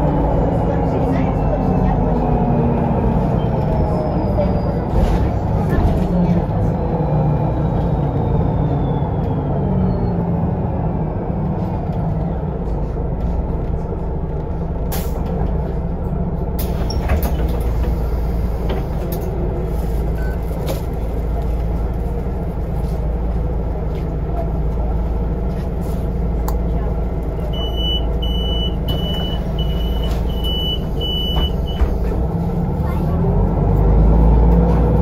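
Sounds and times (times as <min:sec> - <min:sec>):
bus drive and road rumble: 0:00.0 - 0:35.0.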